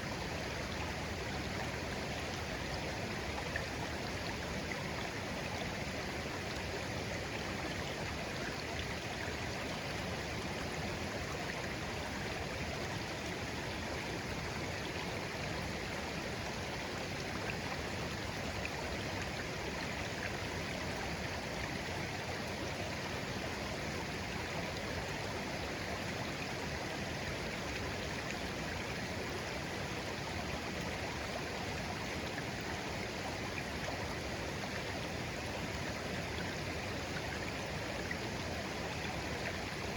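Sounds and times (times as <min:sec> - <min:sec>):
babbling brook: 0:00.0 - 0:39.9.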